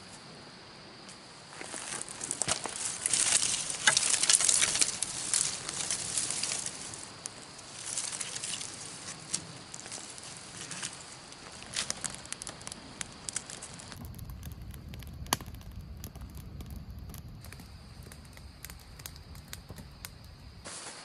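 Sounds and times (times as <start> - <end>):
tinder and twigs crackling: 1.0 - 21.0.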